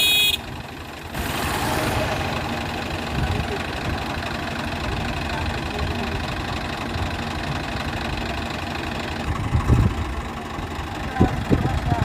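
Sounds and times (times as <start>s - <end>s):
diesel tractor engine chugging: 0.0s - 12.0s.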